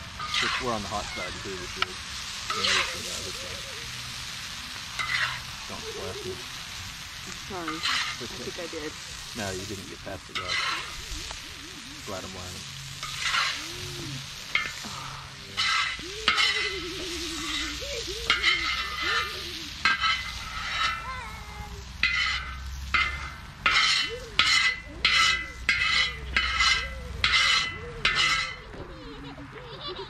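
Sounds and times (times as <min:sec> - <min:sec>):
utensil stirring and scraping pan: 0:00.0 - 0:28.8
meat and onions sizzling: 0:00.0 - 0:30.0.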